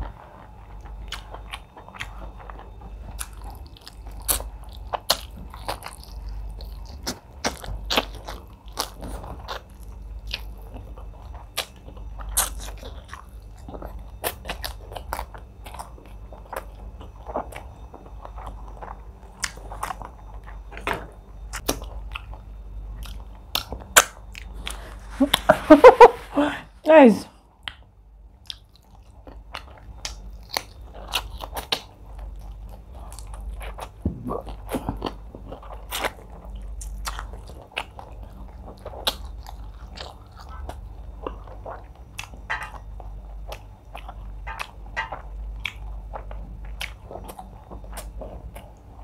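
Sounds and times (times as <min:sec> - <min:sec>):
person chewing: 0:00.0 - 0:26.8, 0:27.6 - 0:49.0.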